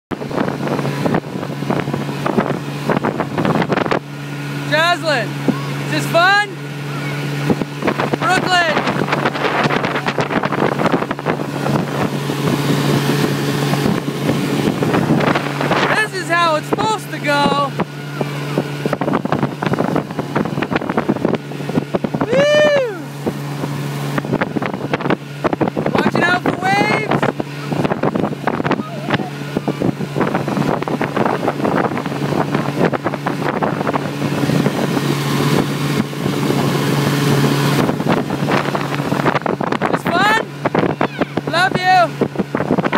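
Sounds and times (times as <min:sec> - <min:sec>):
outboard motor running: 0:00.1 - 0:42.9
wind on the microphone: 0:00.1 - 0:42.9.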